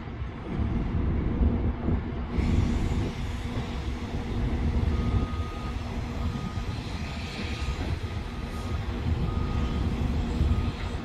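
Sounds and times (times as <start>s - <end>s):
diesel engine hum: 0.0s - 11.0s
freight train rumble: 0.0s - 11.0s.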